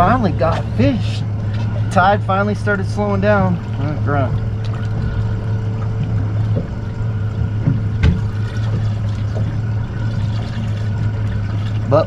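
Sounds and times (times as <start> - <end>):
steady low hum: 0.0 - 12.0
water lapping against boat hull: 0.0 - 12.0.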